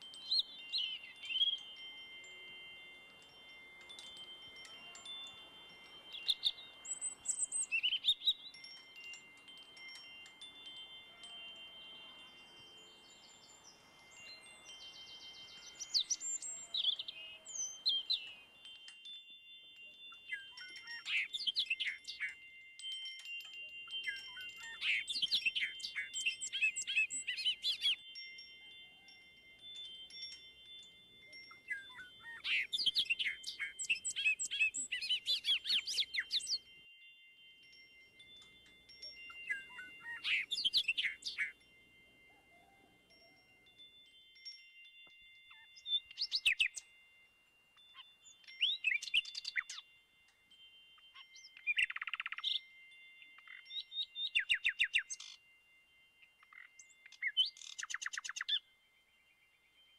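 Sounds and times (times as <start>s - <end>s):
high chirping birdsong: 0.0s - 59.9s
wind chimes ringing: 0.0s - 59.9s.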